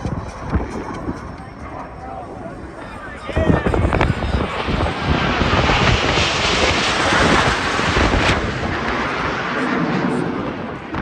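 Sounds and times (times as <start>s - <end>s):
jet aircraft roar overhead: 0.0s - 11.0s.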